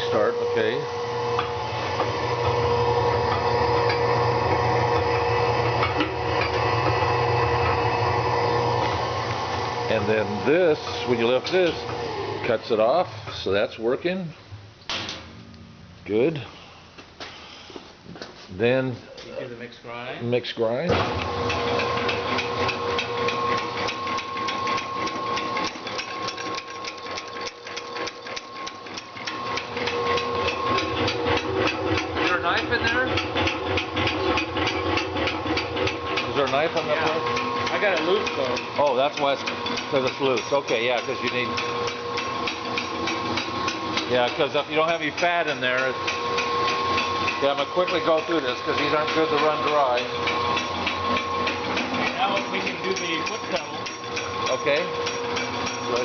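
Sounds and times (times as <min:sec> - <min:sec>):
mixer motor humming: 0:00.0 - 0:13.1, 0:20.9 - 0:56.0.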